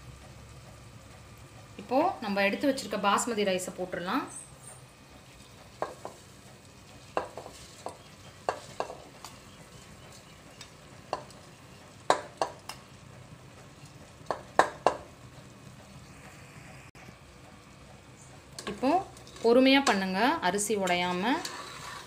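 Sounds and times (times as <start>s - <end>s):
low steady background hum: 0.0s - 22.0s.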